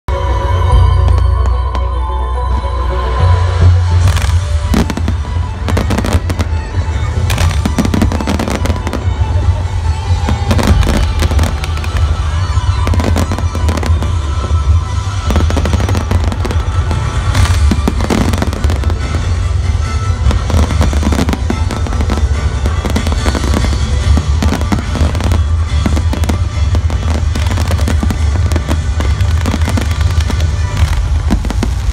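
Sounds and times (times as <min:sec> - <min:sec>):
fireworks bangs and crackling: 0:03.5 - 0:31.9.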